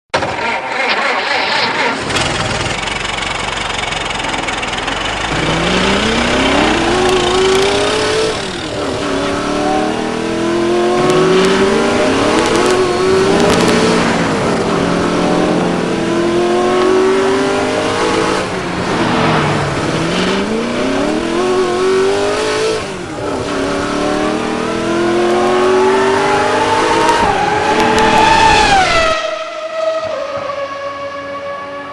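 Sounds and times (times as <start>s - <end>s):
engine revving: 0.2s - 31.9s.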